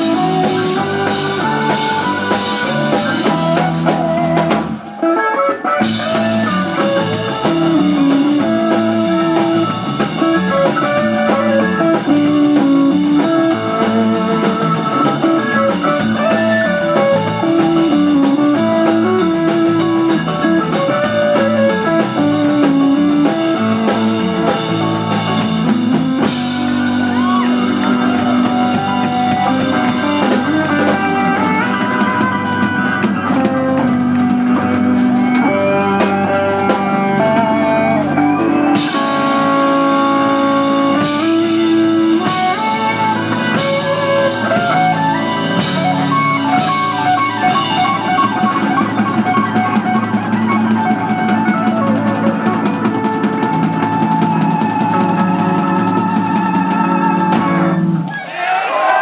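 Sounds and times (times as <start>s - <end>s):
electric guitar melody: 0.0s - 58.1s
organ: 0.0s - 58.1s
piano: 0.0s - 58.1s
bass: 0.0s - 58.3s
drum kit: 0.0s - 59.0s.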